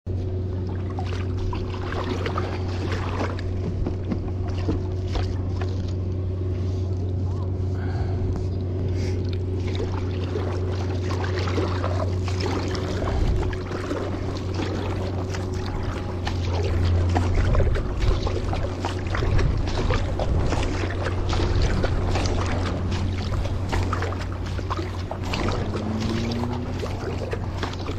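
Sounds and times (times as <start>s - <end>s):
low microphone rumble: 0.1s - 27.9s
paddle blades splashing: 0.1s - 27.9s
water rushing along hull: 0.1s - 27.9s.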